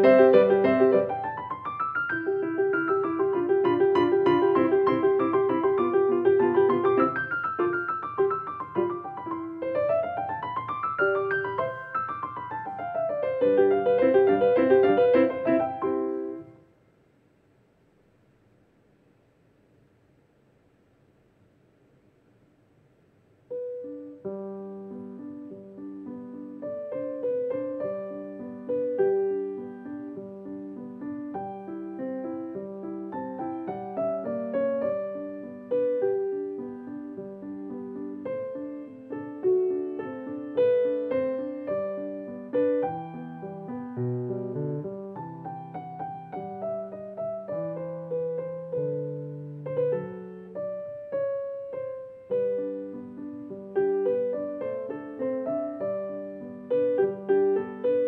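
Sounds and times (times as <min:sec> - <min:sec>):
solo grand piano: 0:00.0 - 0:16.8, 0:23.4 - 0:58.0.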